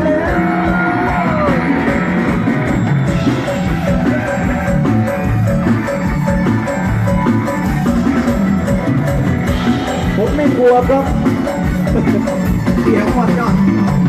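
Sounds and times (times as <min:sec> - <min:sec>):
drum and bass beat: 0:00.0 - 0:14.0
xylophone-like melody: 0:00.0 - 0:14.0.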